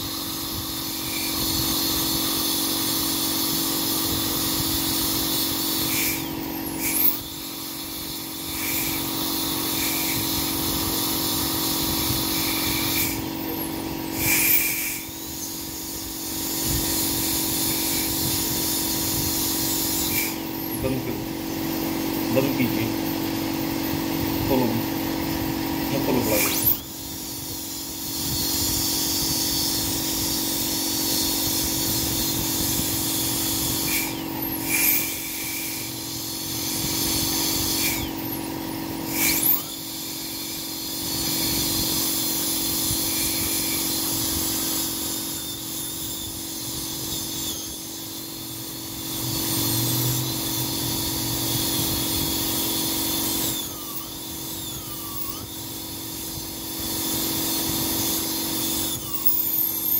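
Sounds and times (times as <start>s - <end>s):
dental drill whining: 0.0s - 59.9s.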